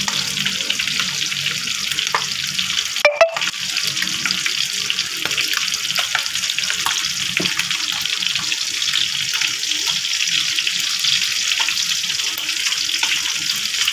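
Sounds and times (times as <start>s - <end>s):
fish sizzling in oil: 0.0s - 13.9s.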